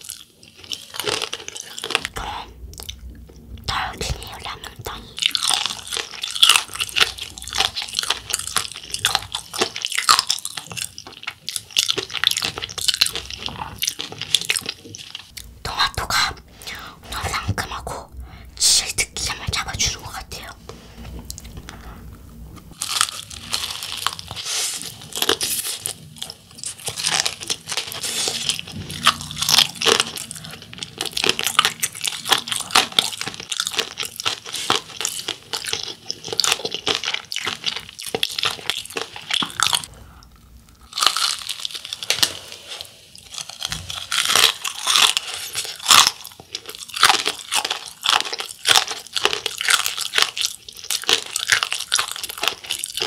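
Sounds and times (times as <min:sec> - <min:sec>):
crunchy food chewing: 0:00.0 - 0:18.1, 0:21.2 - 0:53.0.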